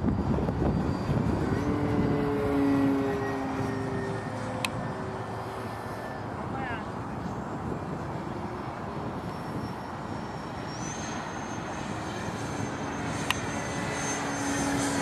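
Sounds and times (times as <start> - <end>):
model jet fans rushing and whining: 0.0 - 15.0.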